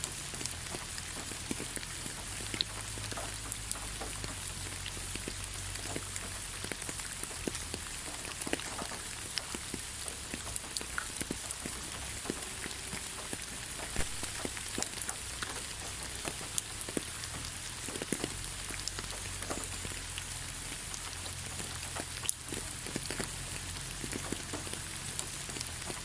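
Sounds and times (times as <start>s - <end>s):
light rain hiss: 0.0s - 26.0s
raindrops ticking: 0.0s - 26.0s.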